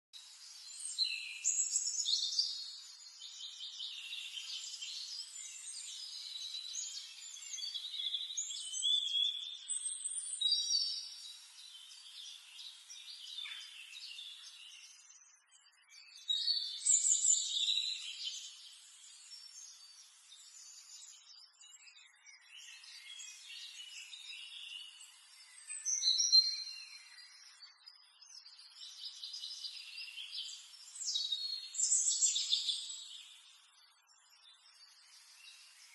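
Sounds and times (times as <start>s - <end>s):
songbirds singing: 0.2s - 35.9s.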